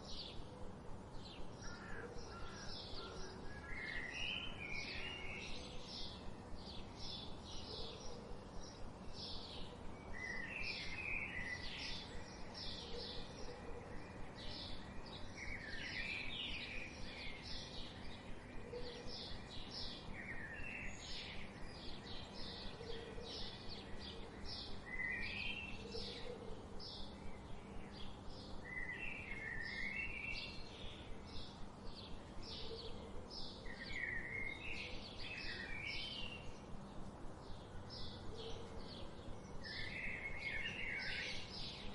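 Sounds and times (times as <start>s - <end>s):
birds chirping and trilling: 0.0s - 41.9s
faint background hiss: 0.0s - 41.9s.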